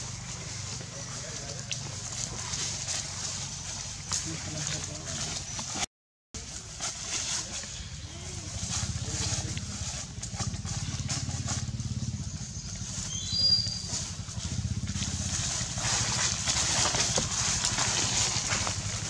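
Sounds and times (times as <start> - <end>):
dry leaves rustling and crackling: 0.0 - 5.8, 6.4 - 19.0.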